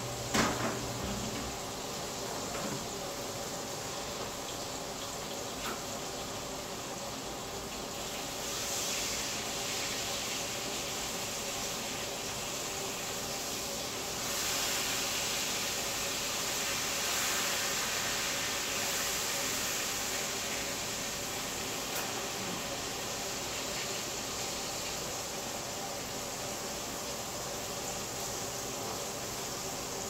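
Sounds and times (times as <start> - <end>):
chicken sizzling in a skillet: 0.0 - 30.0.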